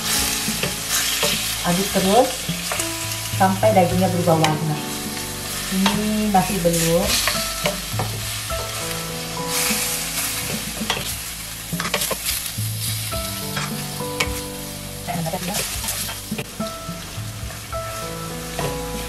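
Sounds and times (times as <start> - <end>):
meat and onion sizzling: 0.0 - 19.0.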